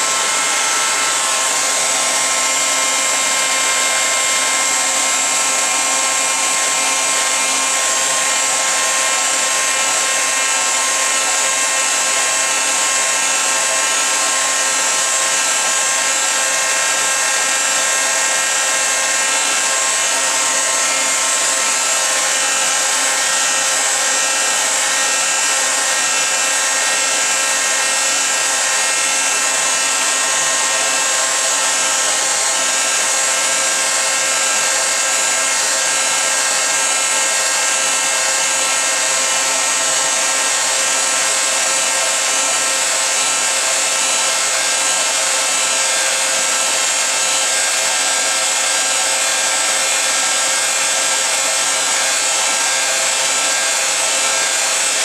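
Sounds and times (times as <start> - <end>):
small blower running: 0.0 - 55.0.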